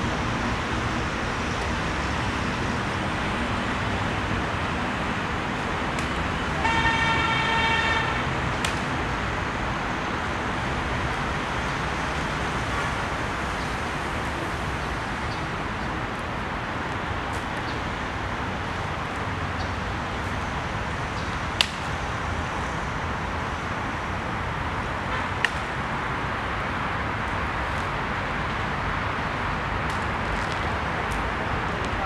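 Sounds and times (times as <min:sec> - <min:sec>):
traffic noise: 0:00.0 - 0:32.0.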